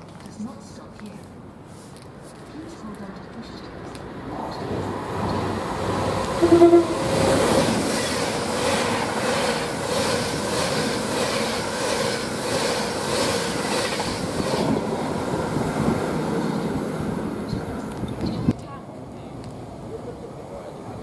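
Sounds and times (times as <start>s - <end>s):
electric train passing at speed: 3.0s - 21.0s.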